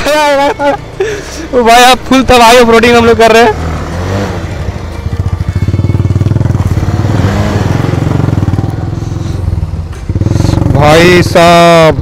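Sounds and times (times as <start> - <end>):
motorcycle engine under load: 0.6 - 12.0.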